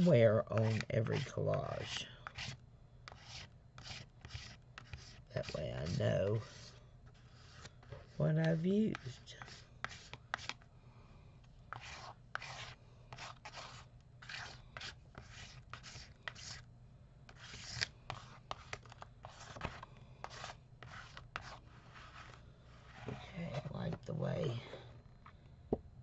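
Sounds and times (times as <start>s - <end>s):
palette knife scraping paste on paper: 0.0s - 10.6s, 11.7s - 16.6s, 17.3s - 23.7s.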